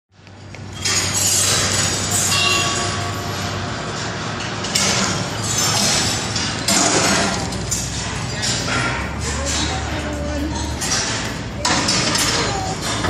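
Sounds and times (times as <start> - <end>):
balls rolling on metal rails: 0.4 - 13.0
metallic clinks and knocks: 0.4 - 13.0
ringing clanks: 0.7 - 13.0.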